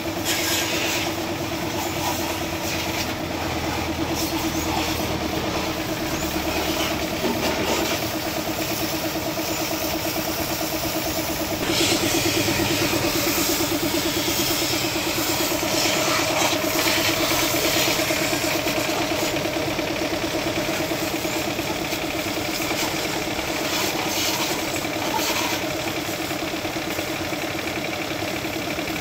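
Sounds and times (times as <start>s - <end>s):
washer pump motor humming: 0.0s - 29.0s
water jet spraying: 0.2s - 19.5s, 20.6s - 25.6s.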